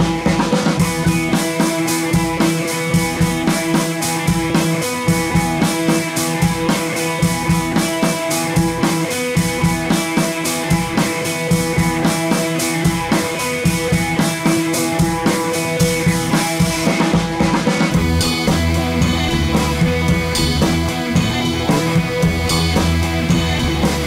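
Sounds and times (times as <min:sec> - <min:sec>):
music with drum kit beat: 0:00.0 - 0:24.0.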